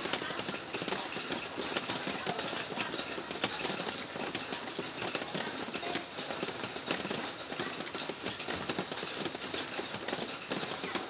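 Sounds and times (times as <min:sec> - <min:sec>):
rain on a hard surface: 0:00.0 - 0:11.0.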